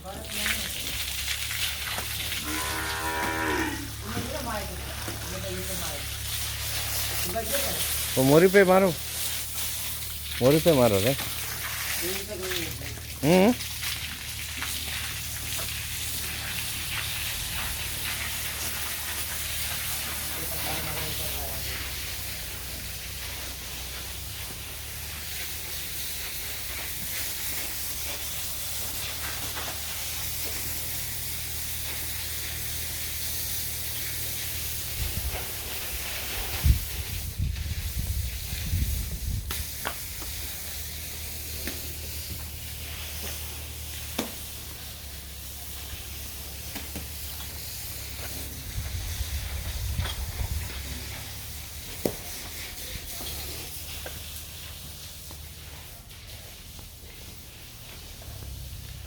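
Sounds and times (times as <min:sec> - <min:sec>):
hose spraying water: 0:00.0 - 0:59.0.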